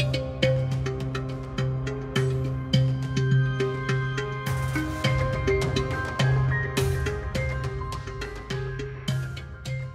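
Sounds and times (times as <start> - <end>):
instrumental music with drums: 0.0 - 9.9.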